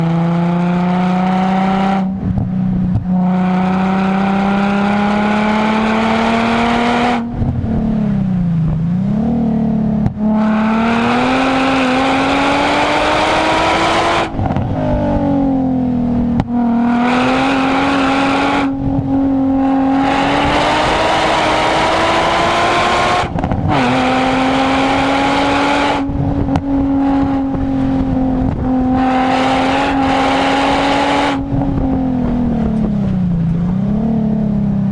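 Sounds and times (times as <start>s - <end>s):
car engine pulling hard: 0.0s - 34.9s.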